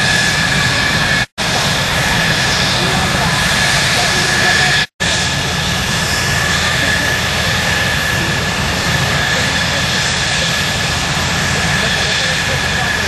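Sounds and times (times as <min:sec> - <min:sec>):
jet engine roar with high whine: 0:00.0 - 0:13.0.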